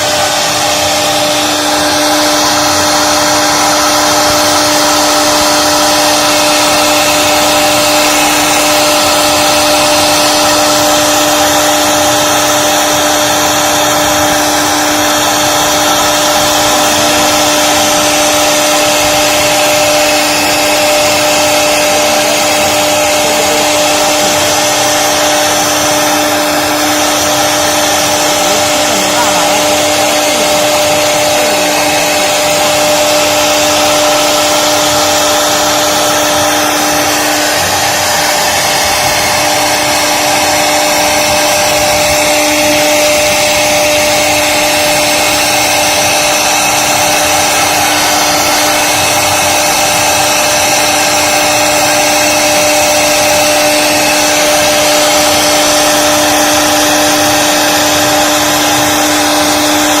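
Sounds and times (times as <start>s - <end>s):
router spindle whine: 0.0s - 60.0s.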